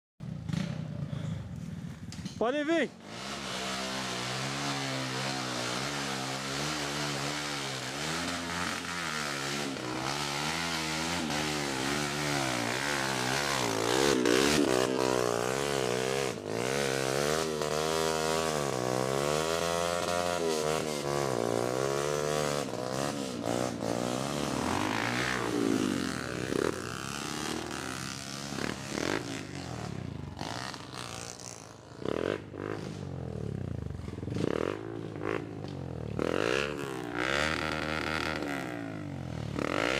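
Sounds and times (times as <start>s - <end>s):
motorcycle engines revving: 0.2s - 39.9s.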